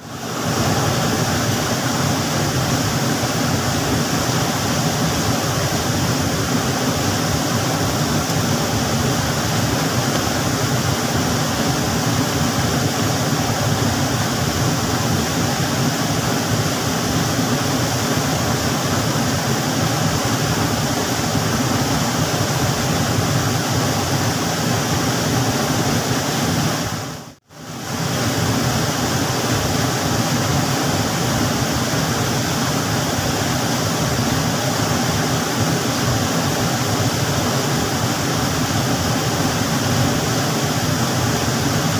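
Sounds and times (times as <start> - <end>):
waterfall rushing over rocks: 0.0 - 41.9.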